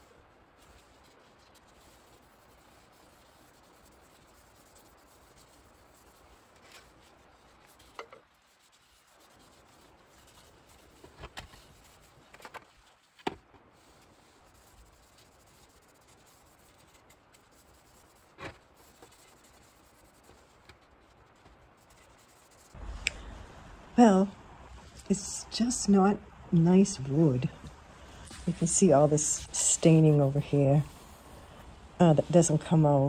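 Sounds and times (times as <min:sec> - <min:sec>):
faint rubbing on wood: 0:00.0 - 0:23.0, 0:26.8 - 0:33.0.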